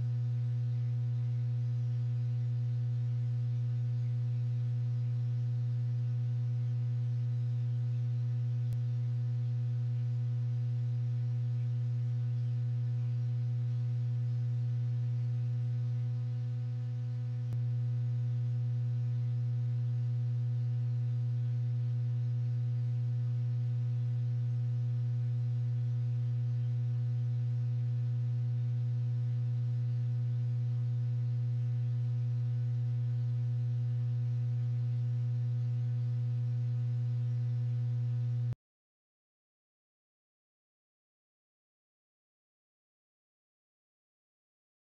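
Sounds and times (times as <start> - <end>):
low electrical hum: 0.0 - 38.6.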